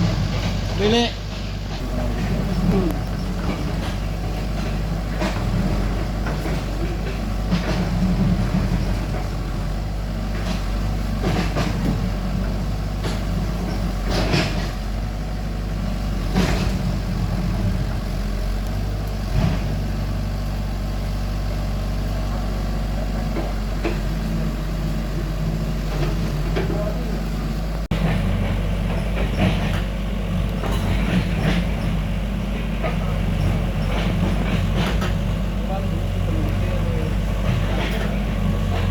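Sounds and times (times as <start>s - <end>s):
machine clanks and knocks: 0.0s - 20.2s, 22.2s - 27.0s, 27.9s - 38.9s
excavator diesel engine running: 0.0s - 38.9s.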